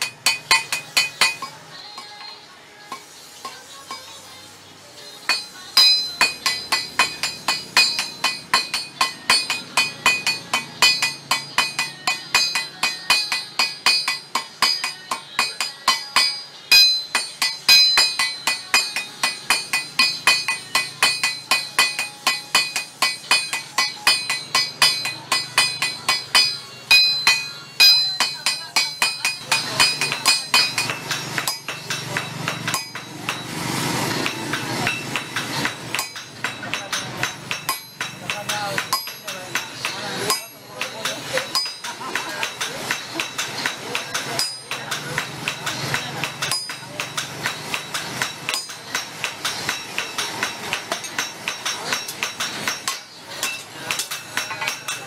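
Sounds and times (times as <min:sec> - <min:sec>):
hammers striking metal on anvil: 0:00.0 - 0:04.4, 0:05.0 - 0:55.0.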